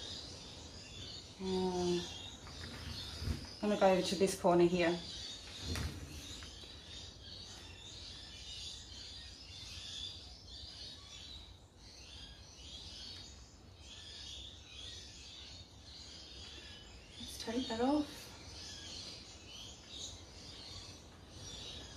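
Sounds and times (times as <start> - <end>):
birds chirping faintly: 0.0 - 21.9.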